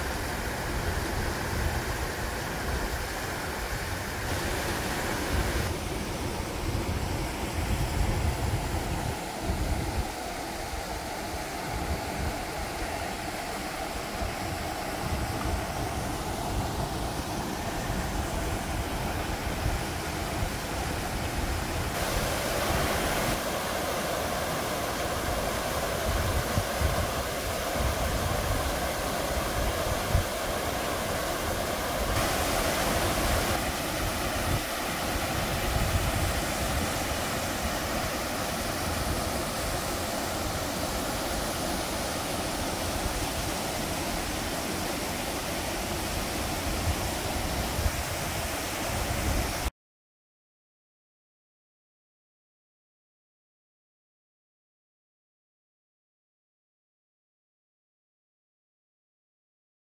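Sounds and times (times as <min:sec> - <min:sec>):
waterfall rushing: 0:00.0 - 0:49.7.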